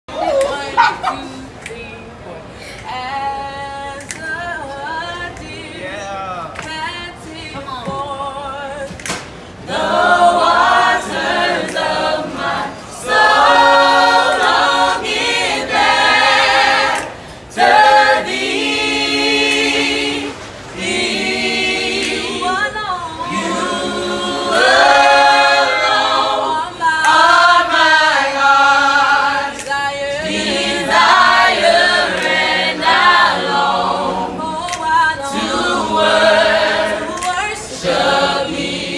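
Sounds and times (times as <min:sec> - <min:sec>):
choir singing a cappella: 0:00.1 - 0:02.1, 0:02.8 - 0:38.9.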